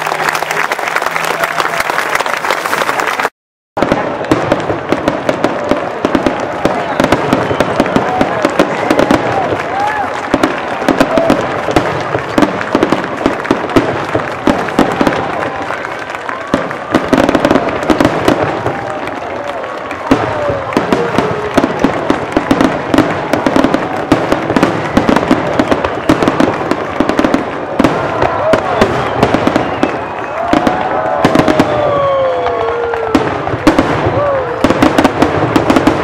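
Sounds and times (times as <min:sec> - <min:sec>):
fireworks bangs and crackles: 0:02.4 - 0:36.0.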